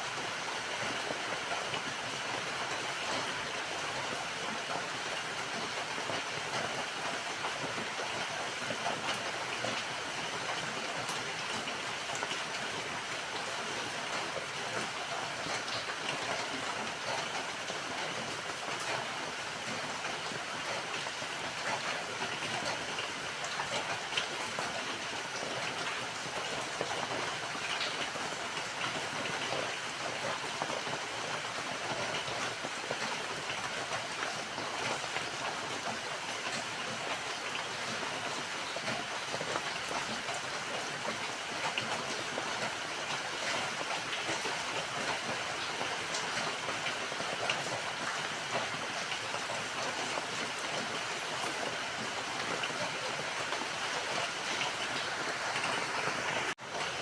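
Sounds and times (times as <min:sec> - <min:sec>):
steady rain hiss: 0:00.0 - 0:57.0
raindrops striking surfaces: 0:00.1 - 0:57.0.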